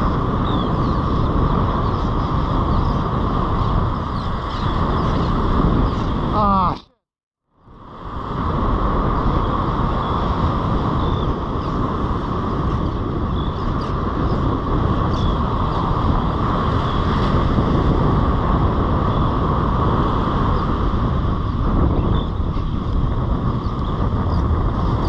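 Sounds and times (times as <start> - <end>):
wind buffeting microphone: 0.0 - 6.9, 7.6 - 25.0.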